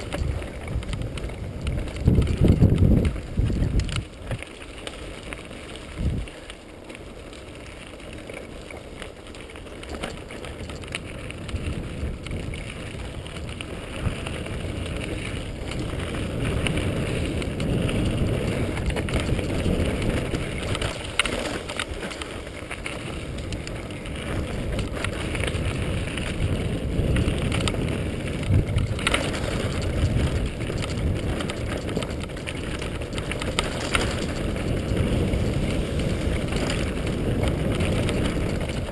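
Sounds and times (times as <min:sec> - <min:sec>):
wind on microphone: 0:00.0 - 0:04.4, 0:05.8 - 0:06.5, 0:10.2 - 0:38.9
bike rattling: 0:00.0 - 0:38.9
bike tyres on gravel: 0:00.0 - 0:38.9.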